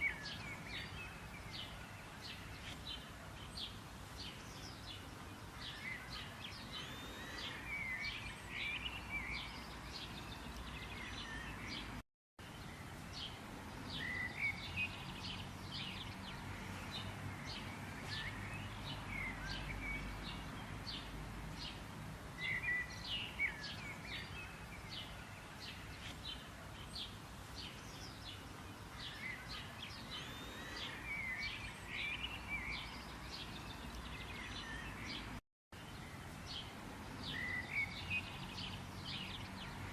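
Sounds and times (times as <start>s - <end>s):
faint steady background hiss: 0.0s - 39.9s
songbirds chirping and trilling: 0.0s - 39.9s.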